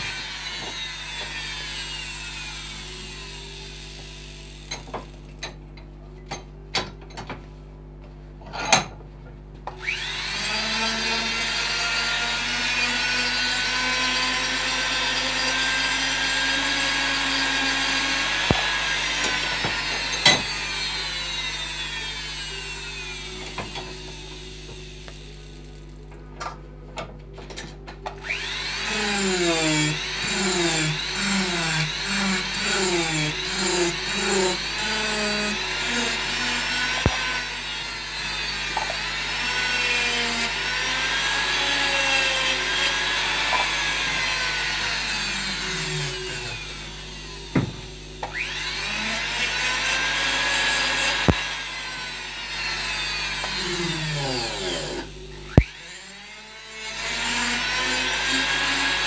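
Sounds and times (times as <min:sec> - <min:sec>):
power carving tool grinding wood: 0:00.0 - 0:05.5, 0:09.8 - 0:26.0, 0:28.2 - 0:59.0.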